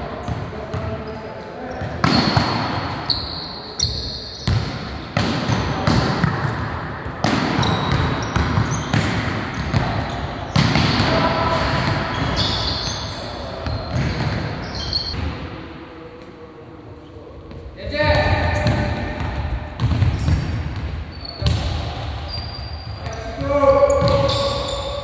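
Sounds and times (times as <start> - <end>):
ball smacks echoing in hall: 1.8 - 3.1, 4.4 - 12.6, 13.3 - 16.4, 17.5 - 25.0.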